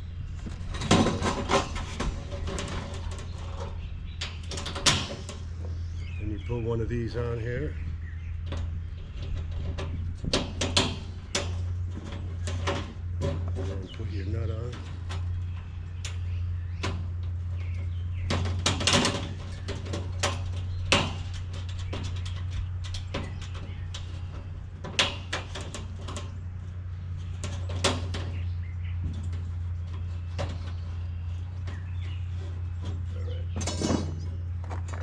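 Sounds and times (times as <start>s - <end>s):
metal rattle: 0.0s - 35.0s
steady low hum: 0.0s - 35.0s.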